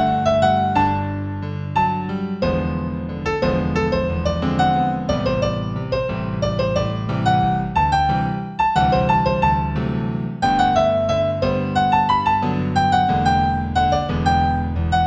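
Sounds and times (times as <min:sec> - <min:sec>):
solo piano piece: 0:00.0 - 0:15.0.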